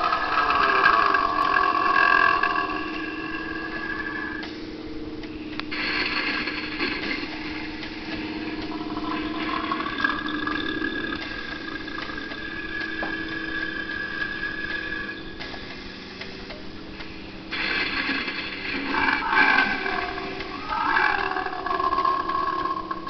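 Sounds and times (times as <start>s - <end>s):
animatronic prop drone: 0.0s - 23.0s.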